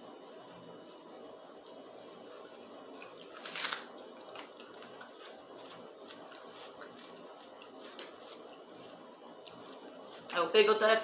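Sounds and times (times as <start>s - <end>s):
person chewing food: 0.3s - 10.3s.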